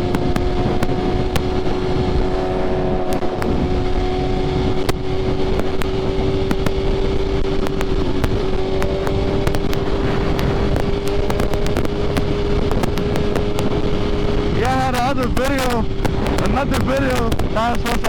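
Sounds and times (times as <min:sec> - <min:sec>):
motorcycle engine cruising: 0:00.0 - 0:18.0
wind rush: 0:00.0 - 0:18.0.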